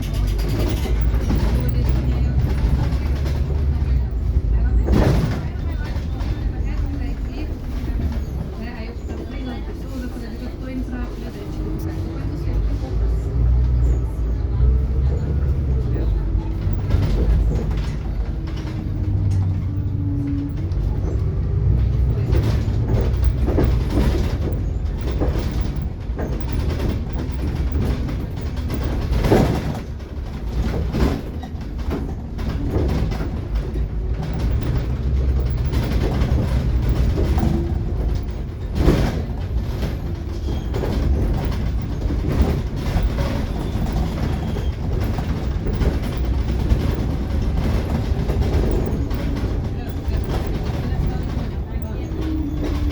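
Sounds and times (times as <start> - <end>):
bus body rattles: 0.0 - 52.9
bus engine and road rumble: 0.0 - 52.9.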